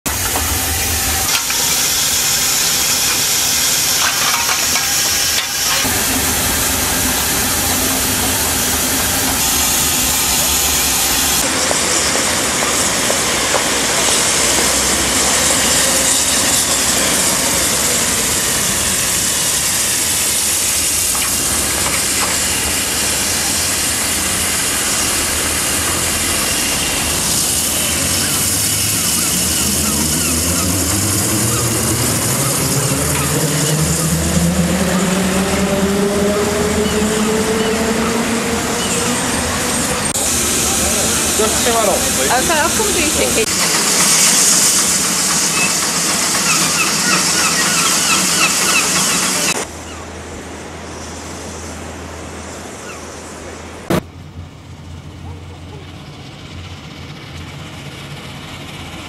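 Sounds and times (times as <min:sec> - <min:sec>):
steam hissing: 0:00.1 - 0:49.7.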